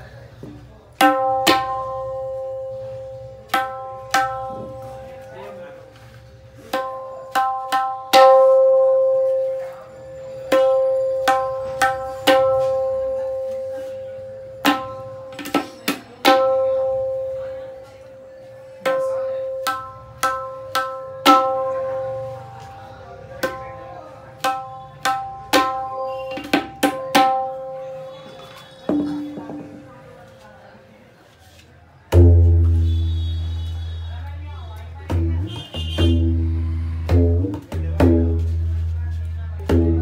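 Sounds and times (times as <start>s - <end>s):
tabla drum ringing strokes: 0.6s - 30.2s, 32.1s - 40.0s.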